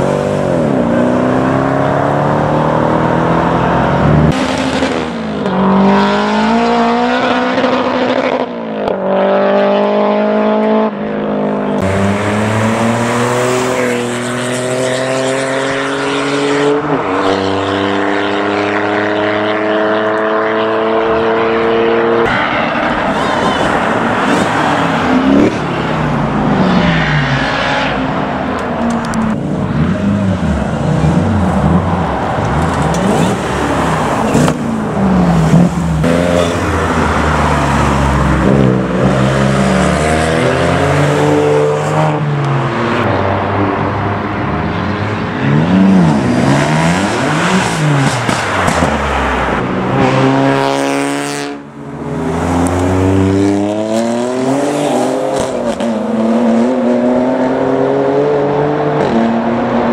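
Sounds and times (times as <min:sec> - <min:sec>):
car engines revving and passing: 0:00.0 - 0:59.9.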